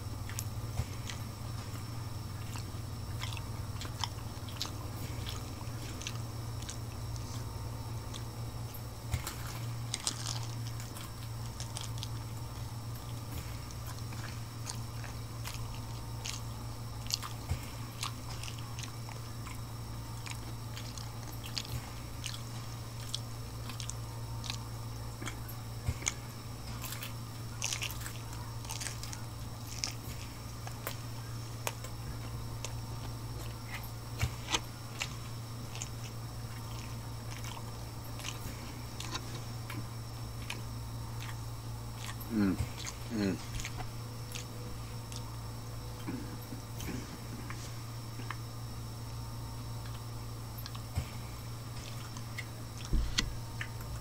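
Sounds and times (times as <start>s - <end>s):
crunchy chewing: 0.0s - 54.0s
steady low hum: 0.0s - 54.0s.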